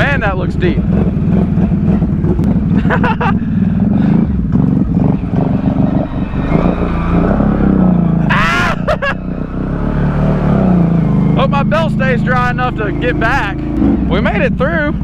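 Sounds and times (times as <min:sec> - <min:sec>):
atv engine running under load: 0:00.0 - 0:15.0.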